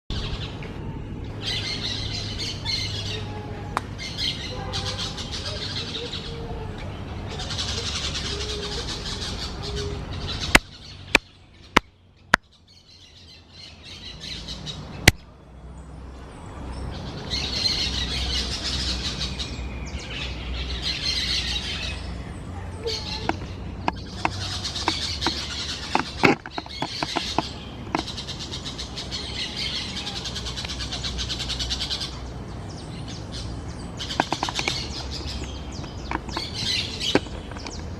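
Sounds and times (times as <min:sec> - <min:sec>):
parakeets chattering and squawking: 0:01.3 - 0:11.8, 0:16.9 - 0:37.9.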